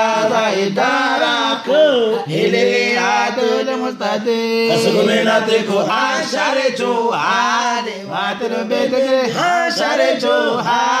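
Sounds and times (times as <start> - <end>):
men singing a devotional chant: 0.0 - 11.0.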